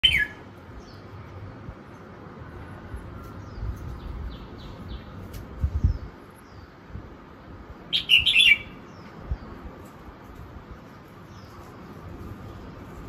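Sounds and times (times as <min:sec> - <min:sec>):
small birds chirping: 0:00.0 - 0:02.2, 0:03.2 - 0:07.1, 0:07.8 - 0:13.0.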